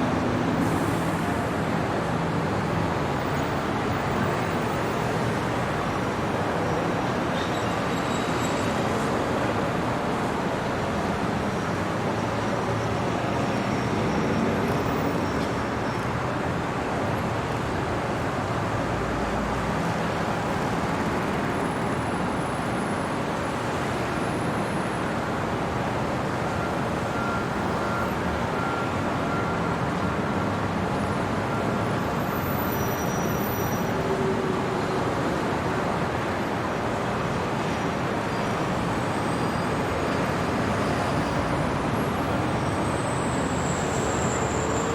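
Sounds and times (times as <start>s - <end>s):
city traffic: 0.0s - 44.9s.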